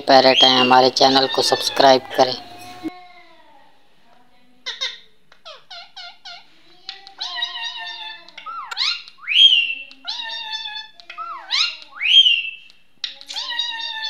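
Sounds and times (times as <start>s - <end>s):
parakeet calling: 0.0s - 2.9s, 4.6s - 14.0s.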